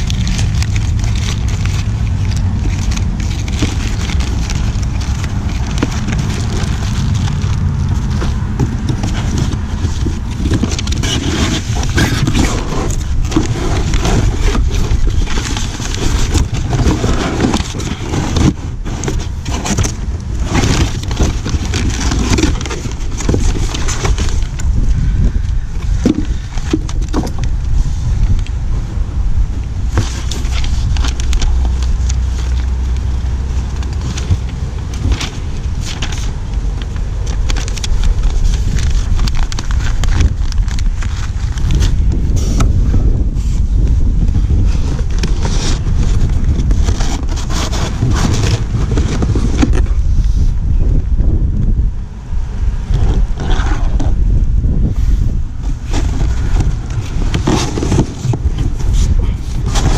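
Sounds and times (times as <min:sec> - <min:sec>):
paper and cardboard rustling: 0:00.0 - 0:28.7, 0:29.4 - 0:51.0, 0:52.8 - 0:59.9
wind buffeting microphone: 0:00.0 - 0:59.9.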